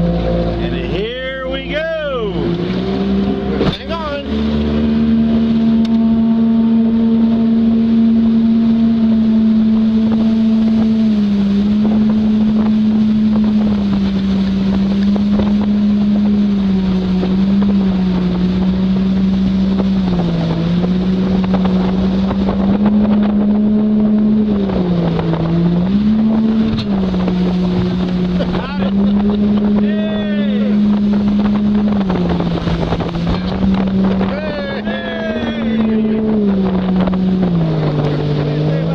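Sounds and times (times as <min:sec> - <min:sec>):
constant rushing noise: 0:00.0 - 0:38.9
jet boat engine running: 0:00.0 - 0:38.9.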